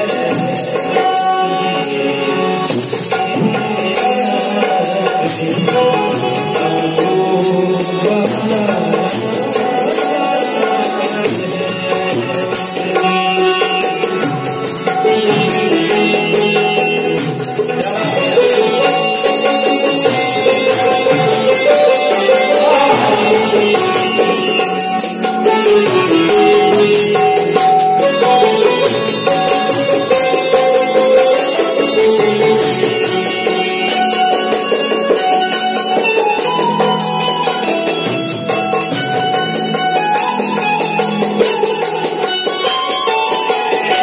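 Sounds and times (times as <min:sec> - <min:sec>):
harmonium: 0:00.0 - 0:44.0
plucked keyed banjo: 0:00.0 - 0:44.0
jingling percussion beat: 0:02.7 - 0:44.0.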